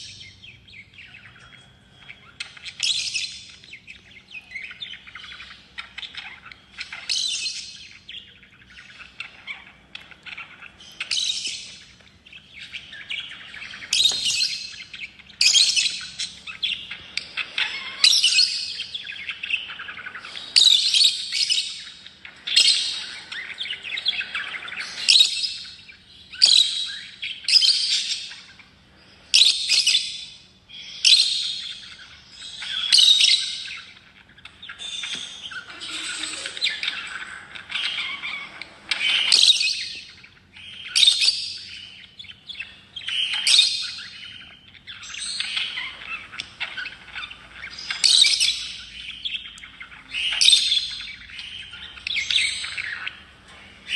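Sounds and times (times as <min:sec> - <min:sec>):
high-pitched bird calls: 0:00.0 - 0:53.9
lovebirds chattering: 0:00.0 - 0:53.9.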